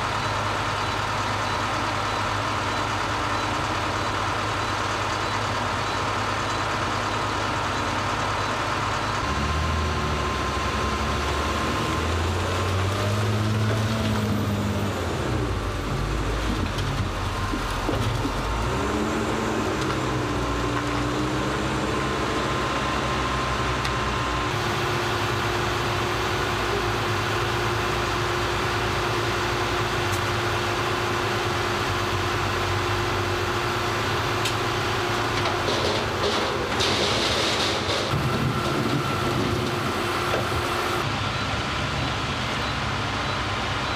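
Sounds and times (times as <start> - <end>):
diesel machinery engines running: 0.0 - 43.9.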